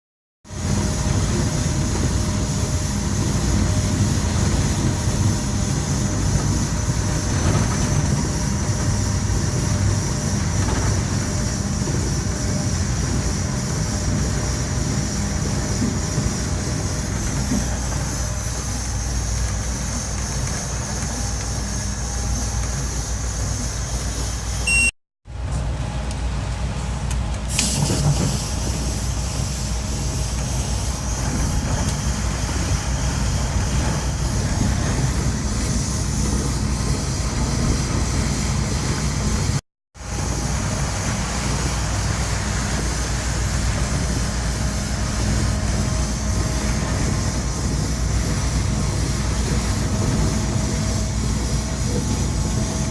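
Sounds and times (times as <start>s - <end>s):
train rumbling along rails: 0.5s - 24.7s, 25.3s - 52.9s.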